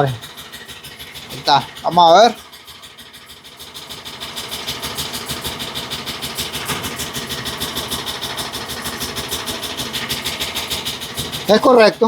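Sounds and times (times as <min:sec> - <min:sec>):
engine running rough with clatter: 0:00.0 - 0:12.0.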